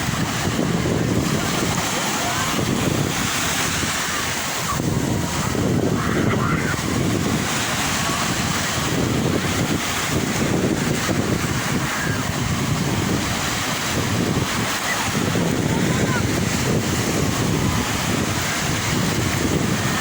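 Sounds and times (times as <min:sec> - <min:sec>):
waves breaking on shore: 0:00.0 - 0:20.0
wind buffeting microphone: 0:00.0 - 0:20.0.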